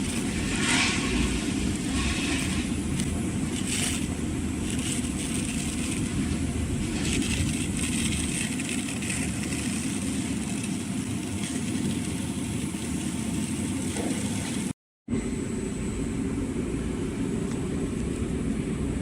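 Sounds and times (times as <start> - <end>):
machine rumbling with hiss: 0.0 - 19.0.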